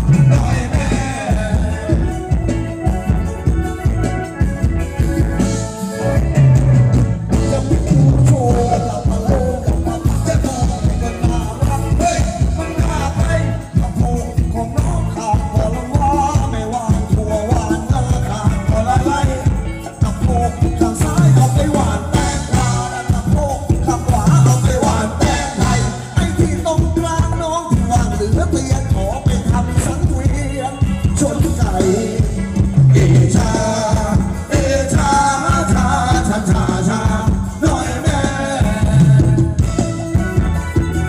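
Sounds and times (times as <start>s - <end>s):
live dance band music: 0.0s - 41.0s.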